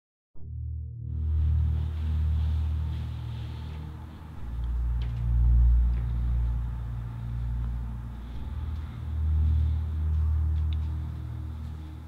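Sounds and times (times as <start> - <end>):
deep low rumbling drone: 0.4 - 12.0.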